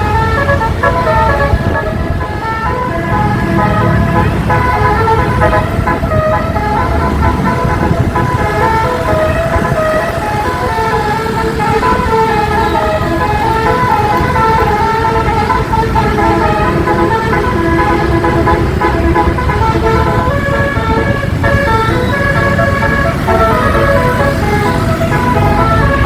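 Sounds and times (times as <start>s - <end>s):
bus air horn melody: 0.0s - 26.0s.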